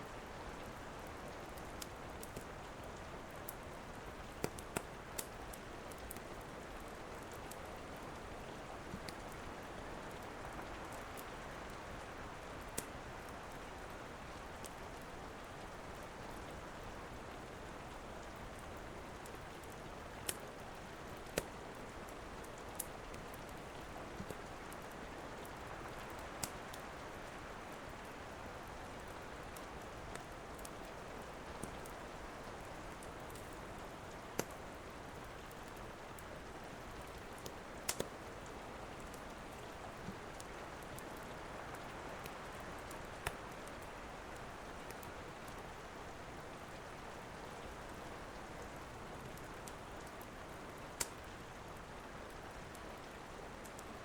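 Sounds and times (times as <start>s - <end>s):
steady rain: 0.0s - 54.0s
wood fire crackling: 0.2s - 16.4s, 17.0s - 54.0s.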